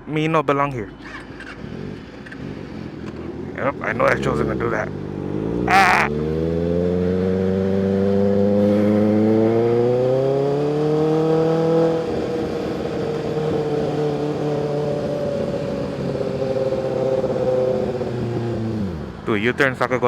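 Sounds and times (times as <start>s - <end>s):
motorcycle engine accelerating: 0.9s - 19.2s.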